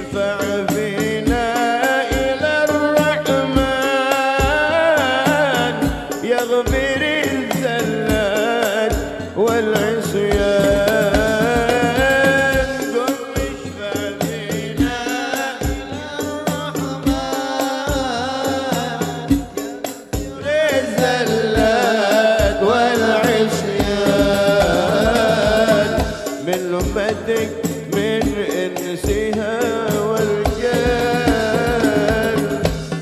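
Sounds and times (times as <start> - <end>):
frame drums and bass drums: 0.0 - 33.0
man singing into a microphone: 0.0 - 33.0.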